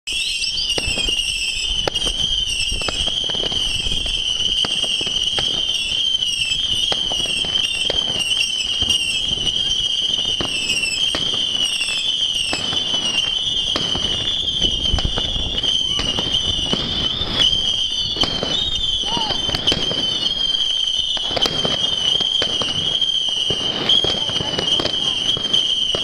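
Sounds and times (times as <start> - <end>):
whistling fireworks: 0.0 - 26.0
fireworks bangs and cracks: 0.1 - 26.0.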